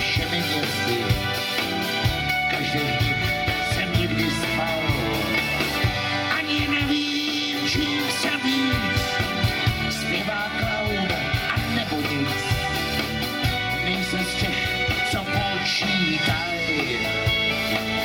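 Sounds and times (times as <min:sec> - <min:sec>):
drum kit steady beat: 0:00.0 - 0:18.0
electric and acoustic guitars: 0:00.0 - 0:18.0.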